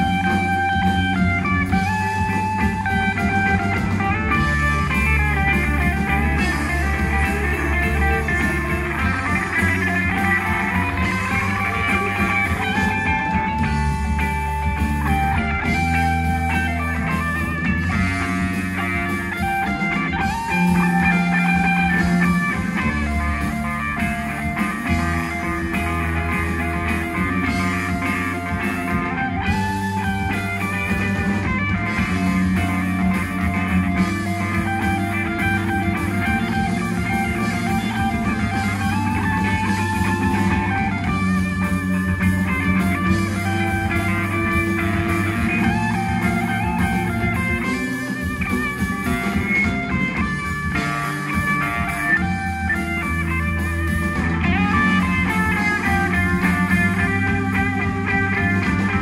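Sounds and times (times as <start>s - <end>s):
bass line: 0.0s - 59.0s
electric guitar: 0.0s - 59.0s
rock band playing: 0.0s - 59.0s.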